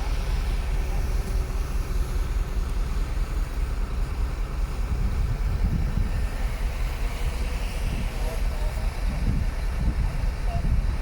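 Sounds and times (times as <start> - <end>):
diesel machinery engine rumble: 0.0 - 11.0.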